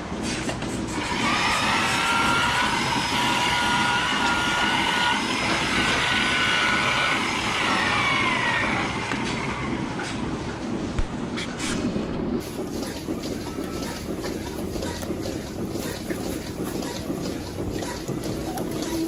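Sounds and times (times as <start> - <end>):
machine rumbling with high whine: 0.0 - 19.0.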